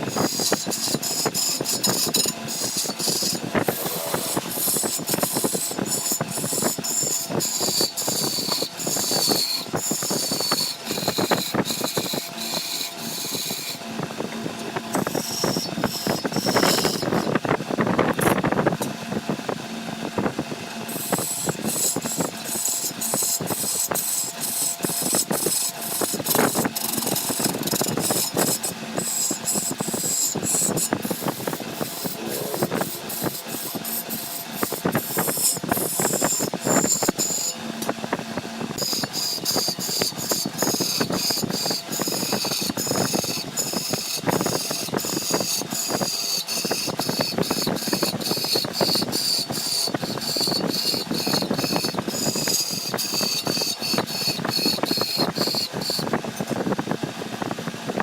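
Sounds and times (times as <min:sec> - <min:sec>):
high machine whine: 0:00.0 - 0:58.0.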